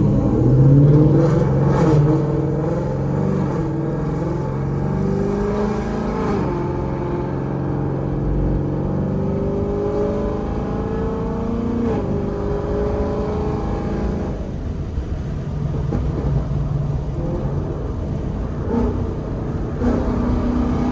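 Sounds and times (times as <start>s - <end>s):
car engine accelerating: 0.0s - 20.9s.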